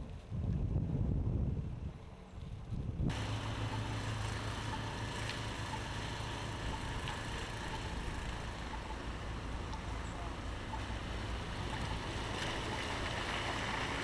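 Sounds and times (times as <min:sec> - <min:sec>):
blizzard wind blowing: 0:00.0 - 0:14.0
low steady hum: 0:01.3 - 0:14.0.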